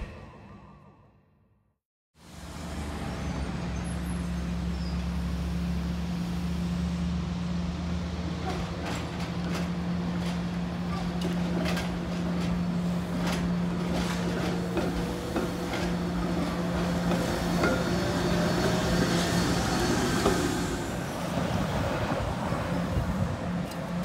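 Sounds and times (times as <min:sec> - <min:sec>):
light-rail trolley passing: 0:02.2 - 0:24.0.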